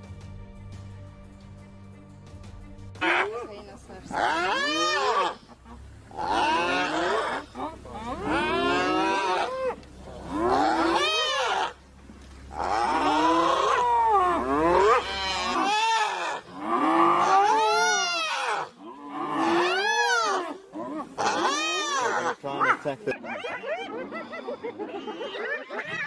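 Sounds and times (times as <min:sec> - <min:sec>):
hyenas calling: 0:03.0 - 0:26.0.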